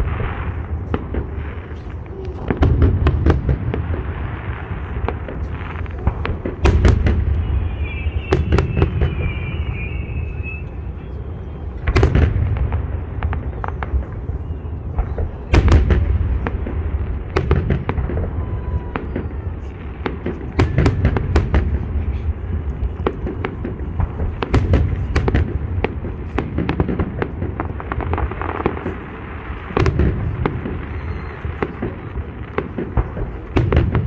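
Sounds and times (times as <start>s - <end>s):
heavy firework booms: 0.0s - 11.0s, 11.6s - 34.0s
fireworks bangs: 0.0s - 34.0s.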